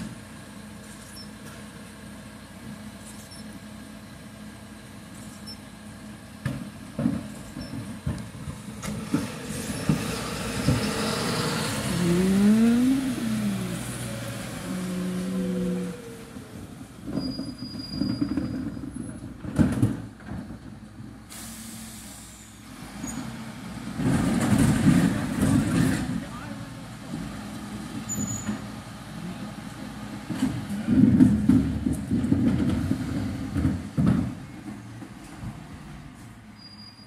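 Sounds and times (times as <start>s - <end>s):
lorry diesel engine running: 0.0s - 36.6s.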